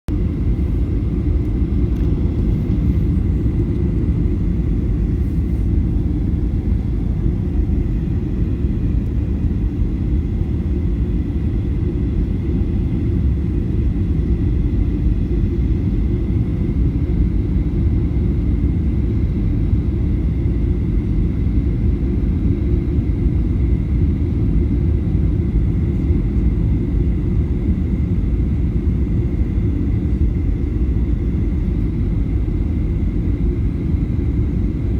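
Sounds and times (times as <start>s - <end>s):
low roar of engines and airflow: 0.1s - 34.9s.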